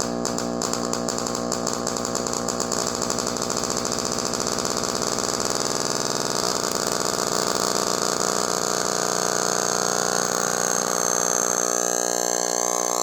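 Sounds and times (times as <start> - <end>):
magnetron rig buzzing: 0.0 - 13.0.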